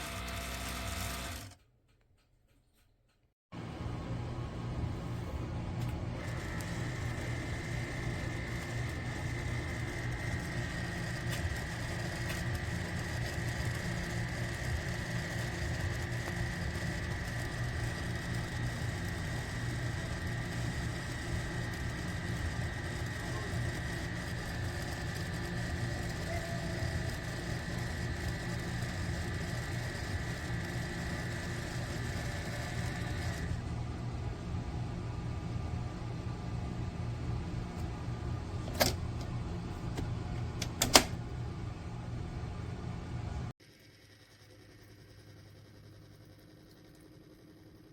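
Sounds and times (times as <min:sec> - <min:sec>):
coffee maker pump hum: 0:00.0 - 0:01.6, 0:03.6 - 0:47.9.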